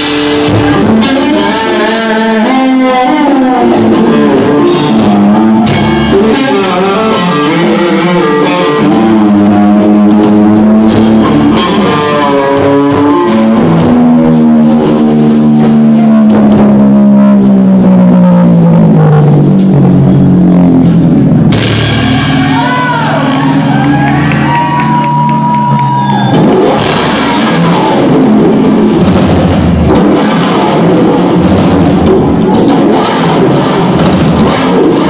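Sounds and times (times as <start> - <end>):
bass: 0.0 - 35.0
distorted electric guitar lead: 0.0 - 35.0
drums: 0.0 - 35.0.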